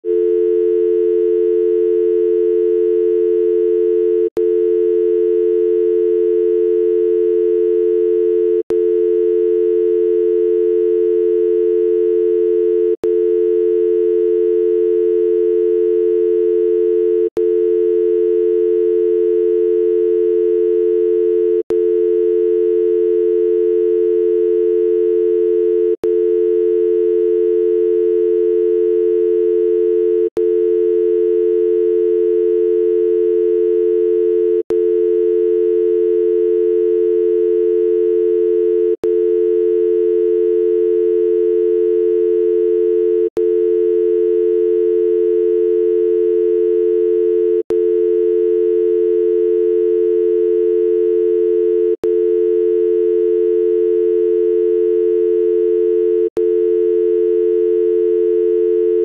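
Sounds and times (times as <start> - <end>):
telephone dial tone: 0.0 - 59.0.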